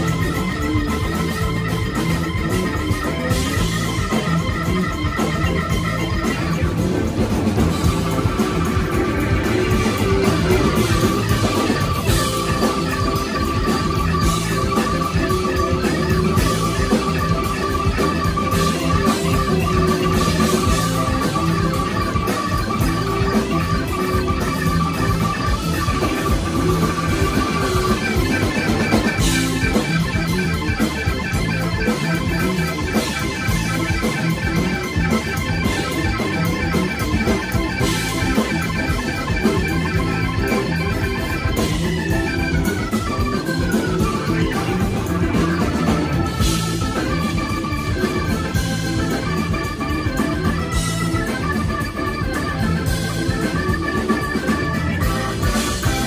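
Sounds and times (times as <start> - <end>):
bass guitar: 0.0 - 56.0
drawbar organ solo: 0.0 - 56.0
drums with cymbal crashes: 0.0 - 56.0
live rock band: 0.0 - 56.0.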